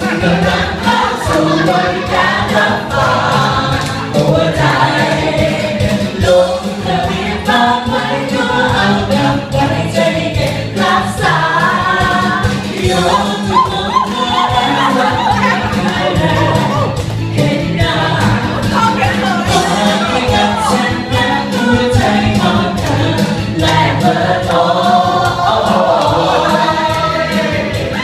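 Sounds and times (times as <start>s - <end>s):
dance music: 0.0s - 28.0s
voices singing: 0.0s - 28.0s.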